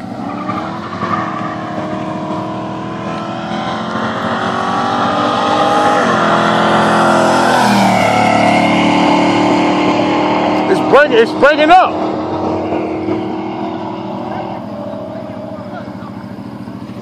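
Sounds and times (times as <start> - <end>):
car engine revving passing by: 0.0 - 17.0.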